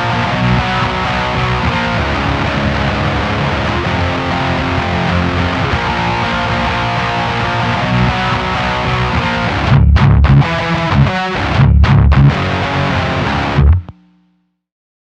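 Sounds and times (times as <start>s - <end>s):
chugged guitar notes: 0.0s - 13.9s
distorted electric guitar chords: 0.0s - 14.4s.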